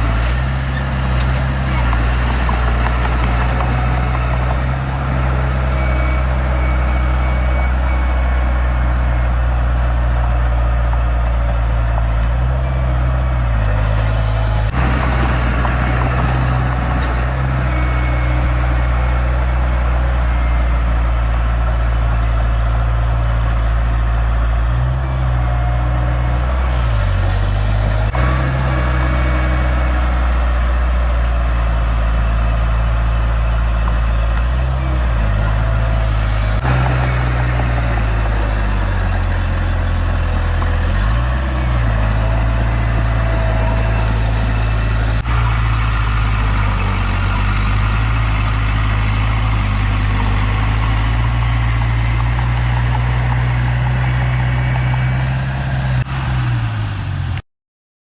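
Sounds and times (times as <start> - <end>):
heavy diesel machinery running: 0.0 - 57.4.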